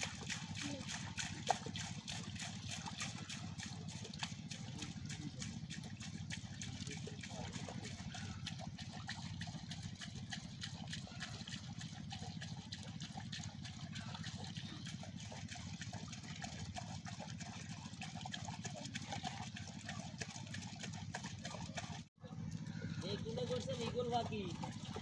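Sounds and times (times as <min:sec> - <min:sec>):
water splashing and dribbling: 0:00.0 - 0:25.0.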